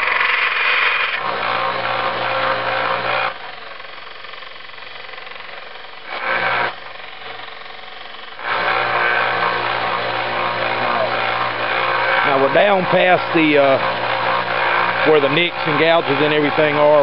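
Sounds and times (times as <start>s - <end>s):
belt sander grinding steel: 0.0s - 17.0s
sander motor hum: 0.0s - 17.0s.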